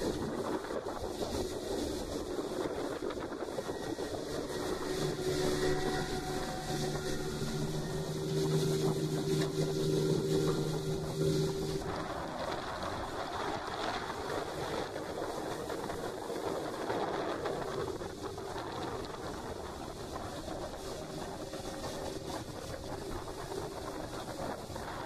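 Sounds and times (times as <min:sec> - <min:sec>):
water splashing along boat hull: 0:00.0 - 0:25.0
wind buffeting microphone: 0:00.0 - 0:25.0.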